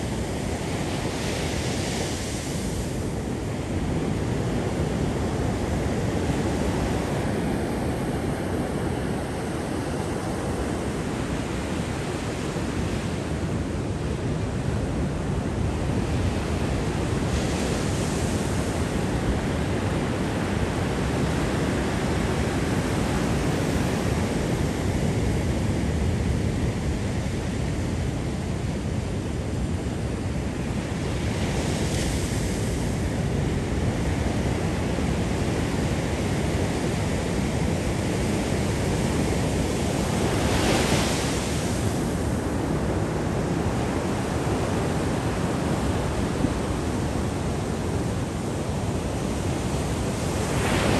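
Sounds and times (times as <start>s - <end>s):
wind on microphone: 0.0s - 50.9s.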